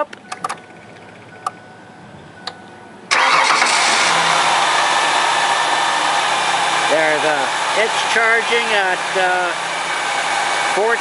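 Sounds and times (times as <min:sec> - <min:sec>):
van engine starting and running: 0:00.0 - 0:11.0.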